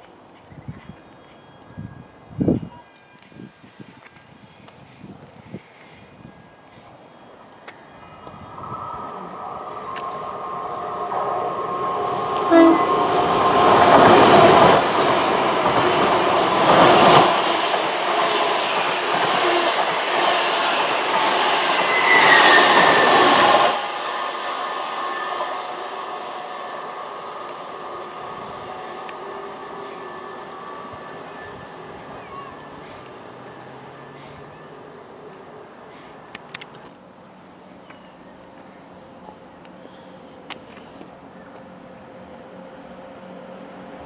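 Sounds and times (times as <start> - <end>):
train passing with wheel rumble: 0.1 - 44.0.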